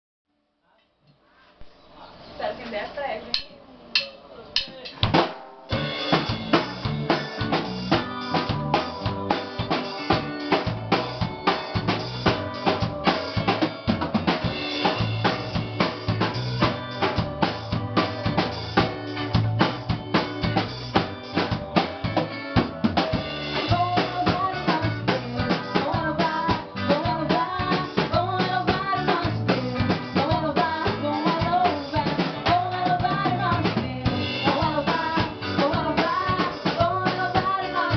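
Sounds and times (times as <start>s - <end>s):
bass drum and snare drumming: 3.4s - 37.9s
carnival band playing: 4.0s - 37.9s.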